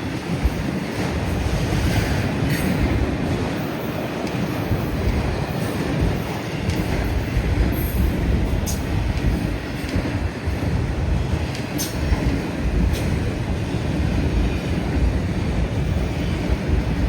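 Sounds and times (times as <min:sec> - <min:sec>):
train wheels rumbling on rails: 0:00.0 - 0:17.0
wind buffeting microphone: 0:00.0 - 0:17.0.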